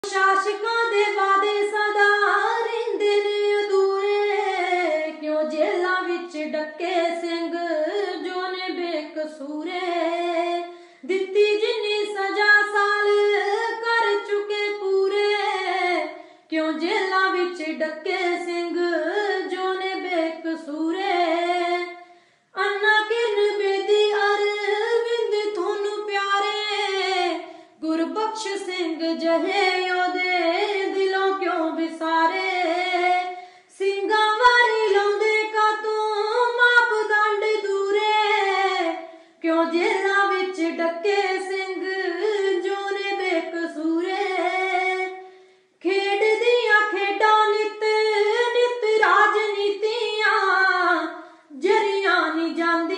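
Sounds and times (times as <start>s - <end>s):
high voice singing unaccompanied: 0.0s - 22.0s, 22.6s - 45.2s, 45.8s - 52.9s.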